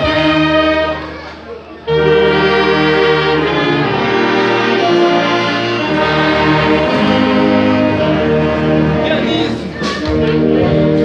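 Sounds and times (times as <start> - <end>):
brass playing sustained chords: 0.0 - 1.2, 1.8 - 11.0.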